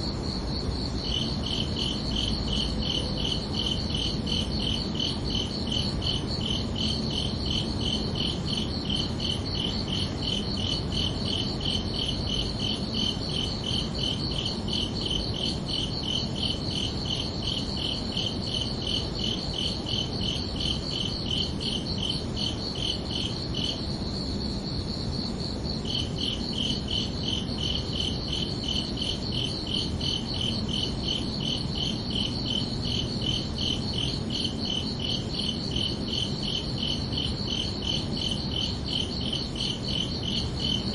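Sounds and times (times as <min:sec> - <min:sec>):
high-pitched cricket chirping: 0:00.0 - 0:40.9
low-pitched cricket chirping: 0:00.0 - 0:40.9.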